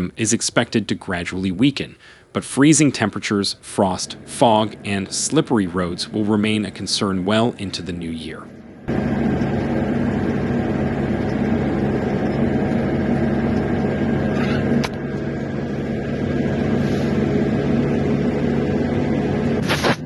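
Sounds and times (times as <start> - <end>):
vehicle engine running: 2.6 - 20.0.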